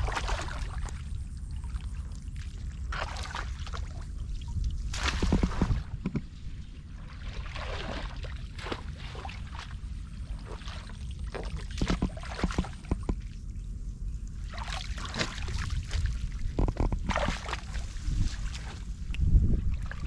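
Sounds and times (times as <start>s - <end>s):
shallow water splashing: 0.0s - 6.0s, 6.9s - 13.3s, 14.4s - 19.0s
steady low rumble: 0.0s - 20.0s.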